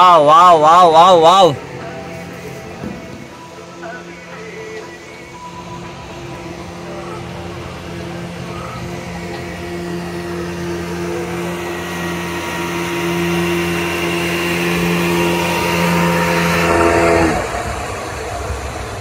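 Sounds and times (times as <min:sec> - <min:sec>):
cable car machinery whine: 0:00.0 - 0:19.0.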